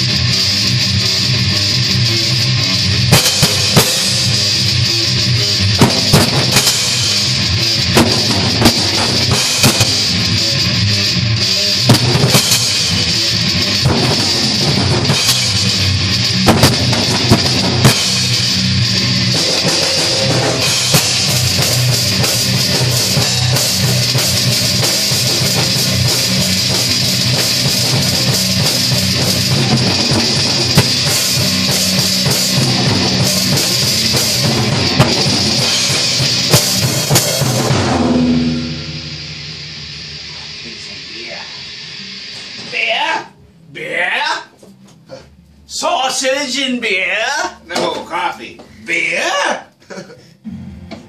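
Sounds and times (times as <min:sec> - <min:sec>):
electric guitar: 0:00.0 - 0:43.7, 0:50.4 - 0:51.0
drum kit: 0:00.0 - 0:48.8, 0:50.4 - 0:51.0.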